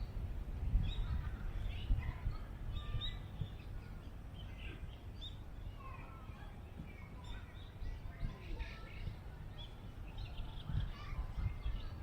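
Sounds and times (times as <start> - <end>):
wind rumble on microphone: 0.0 - 4.3, 5.7 - 12.0
small birds chirping: 0.0 - 6.1, 6.8 - 12.0.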